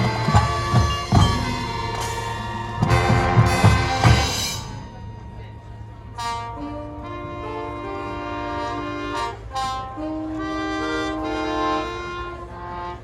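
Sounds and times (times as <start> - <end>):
marching band sustained chords: 0.0 - 13.0.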